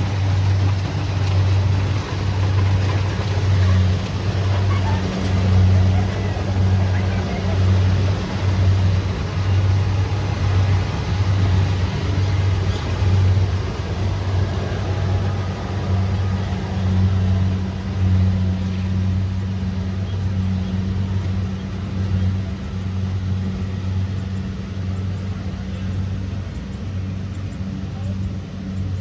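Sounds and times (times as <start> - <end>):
diesel engine humming: 0.0 - 29.0
machinery noise: 0.0 - 29.0.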